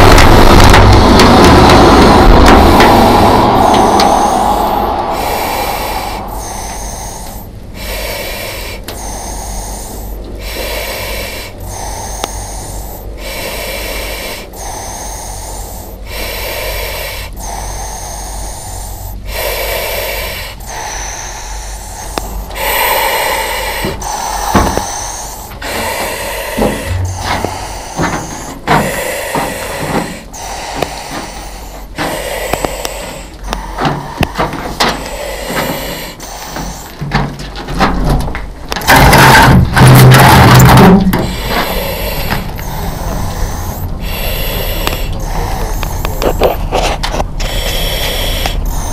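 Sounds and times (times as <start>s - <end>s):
breathing through a mask: 0.0s - 48.9s.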